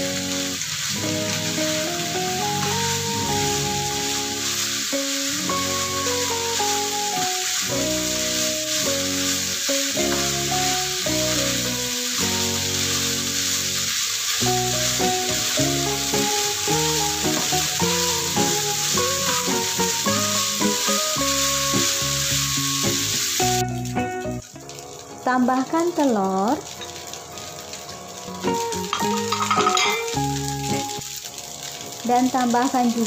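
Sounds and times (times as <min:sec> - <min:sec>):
background music with held notes: 0:00.0 - 0:32.0
rice sizzling in frying pan: 0:00.0 - 0:33.0.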